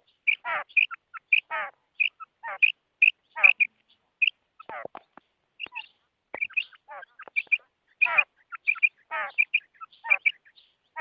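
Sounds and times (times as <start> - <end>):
quail calling: 0.0 - 11.0.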